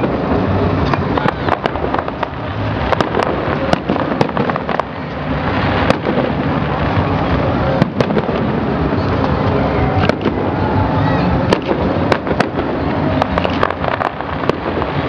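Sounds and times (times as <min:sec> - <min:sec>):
fireworks cracking and popping: 0:00.0 - 0:15.0.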